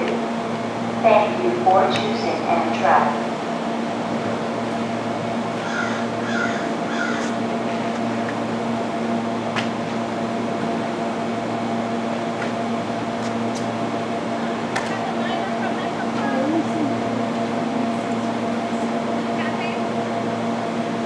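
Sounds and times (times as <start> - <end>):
stationary train humming: 0.0 - 21.0.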